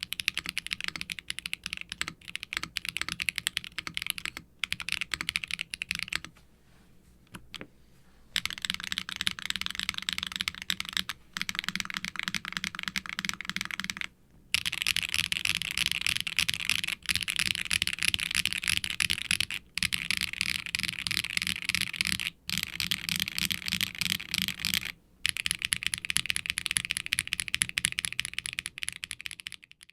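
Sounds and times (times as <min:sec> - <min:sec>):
fast typing on mechanical keyboard: 0:00.0 - 0:06.3, 0:08.4 - 0:29.9.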